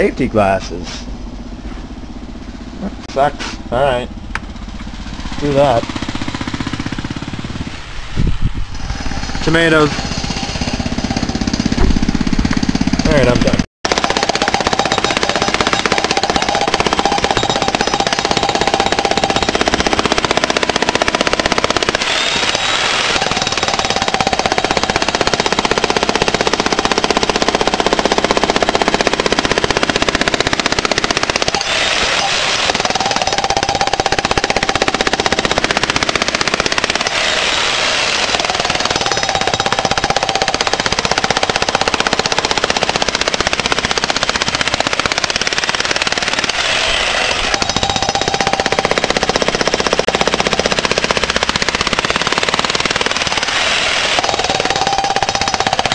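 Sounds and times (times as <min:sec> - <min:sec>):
jackhammer pounding concrete: 0:03.8 - 0:07.7, 0:08.8 - 0:55.9.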